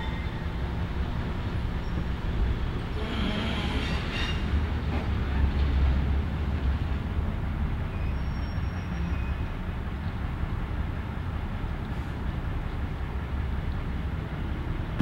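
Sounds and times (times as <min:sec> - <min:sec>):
diesel locomotive idling: 0:00.0 - 0:08.4, 0:09.0 - 0:15.0.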